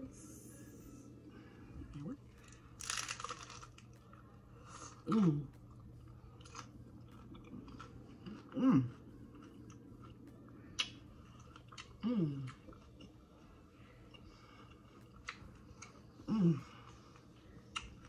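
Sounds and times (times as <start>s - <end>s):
chewing crunchy taco: 2.3s - 18.0s.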